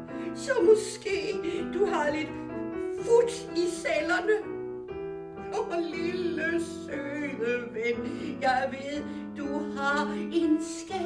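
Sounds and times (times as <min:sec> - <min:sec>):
person singing: 0:00.1 - 0:04.5, 0:05.4 - 0:11.0.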